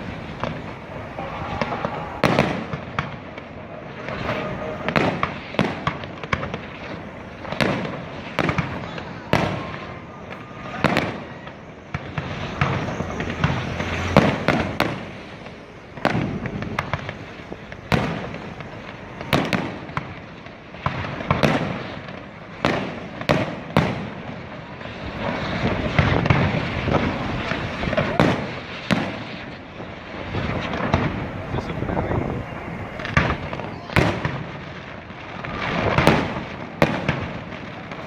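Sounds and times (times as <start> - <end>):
fireworks bursting with echo: 0.0 - 38.0.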